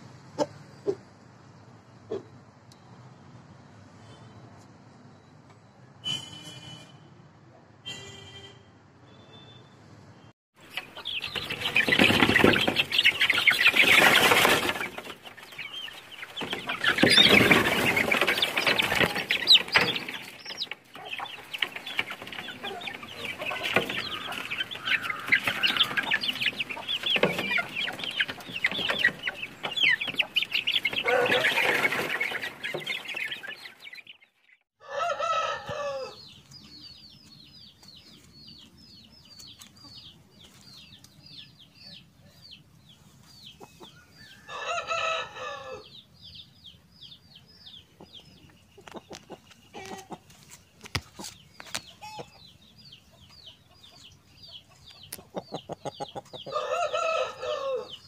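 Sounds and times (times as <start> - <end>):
chickens clucking and chirping: 0.0 - 3.1, 10.6 - 58.0.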